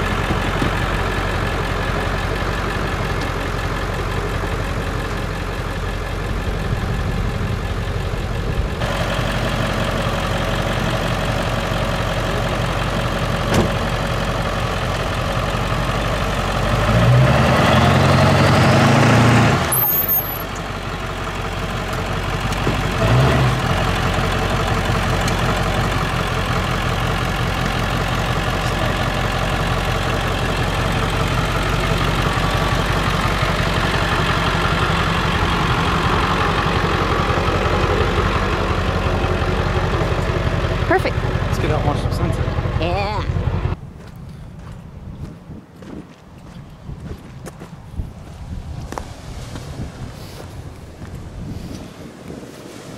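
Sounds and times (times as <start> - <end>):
truck engine idling and revving: 0.0 - 52.8.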